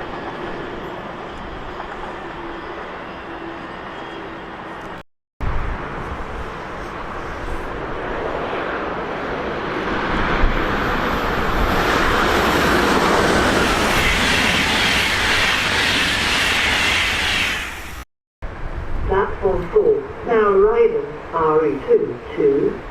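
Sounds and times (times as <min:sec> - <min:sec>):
train approaching: 0:00.0 - 0:22.8.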